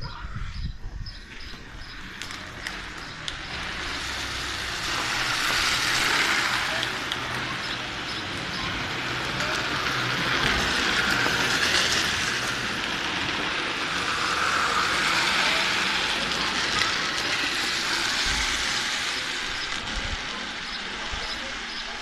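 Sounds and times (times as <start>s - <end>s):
wheels sliding on asphalt: 0.2s - 22.0s.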